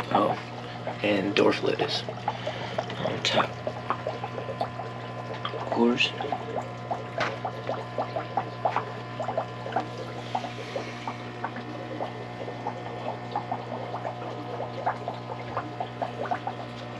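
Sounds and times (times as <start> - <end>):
aquarium filter bubbling: 0.0 - 16.9
low hum of air pump: 0.0 - 16.9.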